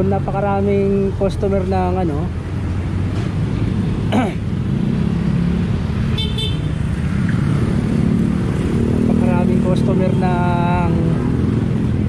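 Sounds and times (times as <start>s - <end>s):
street traffic engines: 0.0s - 12.0s.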